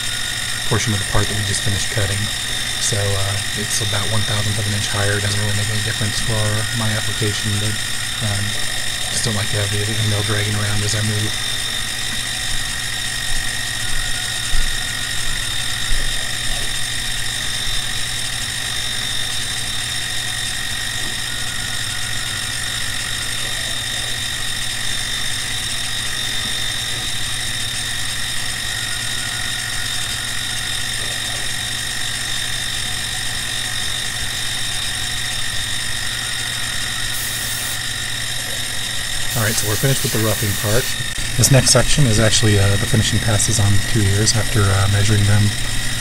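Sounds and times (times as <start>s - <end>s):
milling machine motor hum: 0.0s - 16.1s, 16.7s - 46.0s
end mill cutting aluminum whine: 0.0s - 46.0s.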